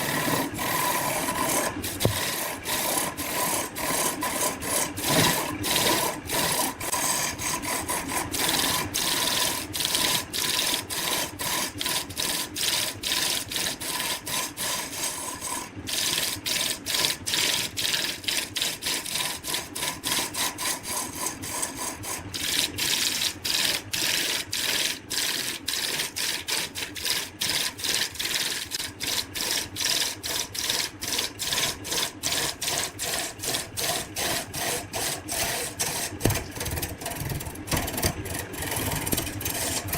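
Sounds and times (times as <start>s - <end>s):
wood being rasped: 0.0s - 23.8s, 25.5s - 39.9s.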